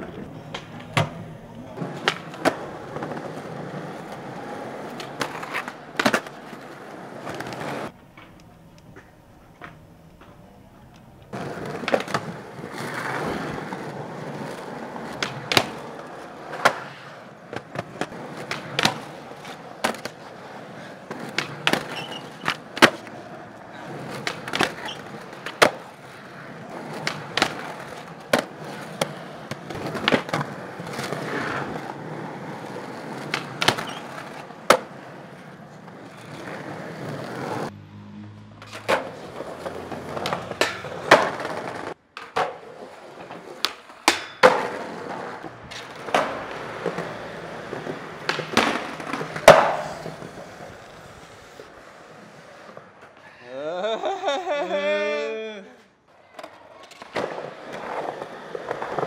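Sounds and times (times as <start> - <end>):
skateboard wheels rolling on pavement: 0.0 - 53.3, 55.8 - 59.0
skateboard pops and landings: 0.4 - 8.4, 11.4 - 20.4, 21.1 - 23.3, 24.0 - 37.7, 38.6 - 51.0, 56.3 - 59.0.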